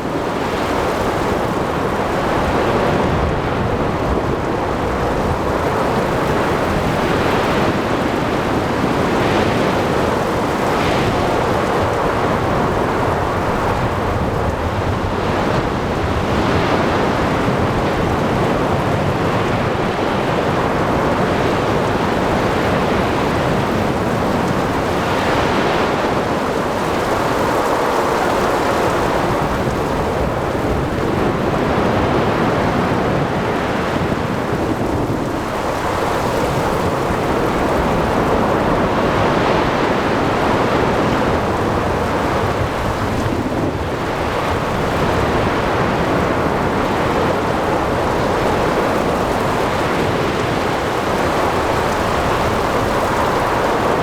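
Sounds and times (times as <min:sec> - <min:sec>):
steady rain: 0:00.0 - 0:54.0
wind: 0:00.0 - 0:54.0.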